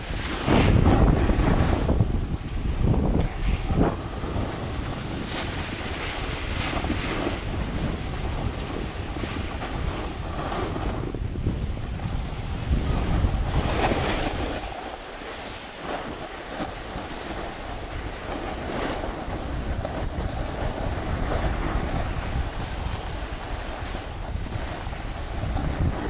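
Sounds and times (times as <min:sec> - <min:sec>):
snowboard sliding over snow: 0:00.0 - 0:26.0
wind buffeting microphone: 0:00.0 - 0:26.0.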